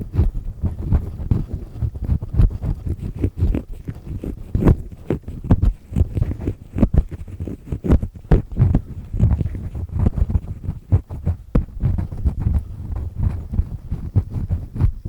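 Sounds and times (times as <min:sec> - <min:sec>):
ear pick scraping in ear: 0:00.0 - 0:15.0.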